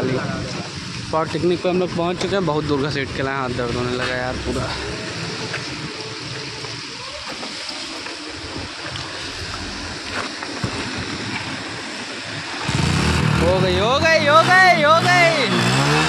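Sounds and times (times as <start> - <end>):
rain on a wet road: 0.0 - 16.0.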